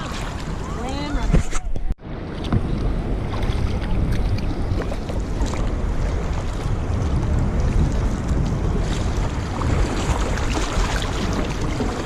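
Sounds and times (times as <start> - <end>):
lake water lapping and splashing: 0.0 - 1.5, 2.1 - 12.0
wind buffeting microphone: 0.0 - 12.0.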